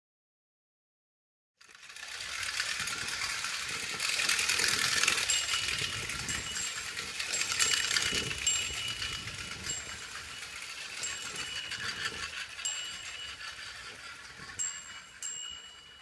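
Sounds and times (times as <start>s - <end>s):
clockwork toy whirring and rattling: 1.6s - 16.0s.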